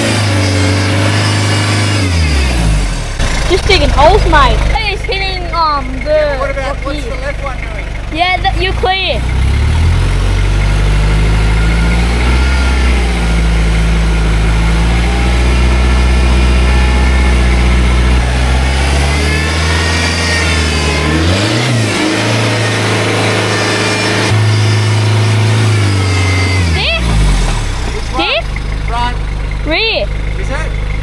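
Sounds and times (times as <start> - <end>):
diesel engine at low revs: 0.0 - 31.0.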